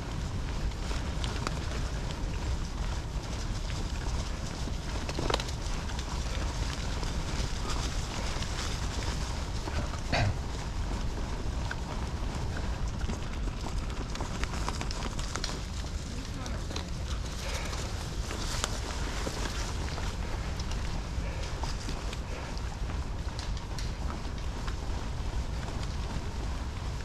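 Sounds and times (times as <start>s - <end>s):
bike tyres rumbling on dirt: 0.0s - 27.0s.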